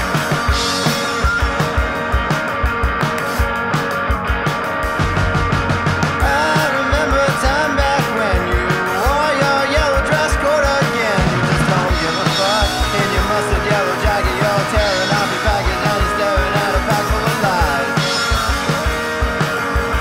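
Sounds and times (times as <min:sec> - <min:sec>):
loud music: 0:00.0 - 0:20.0
steady drum beat: 0:00.0 - 0:20.0.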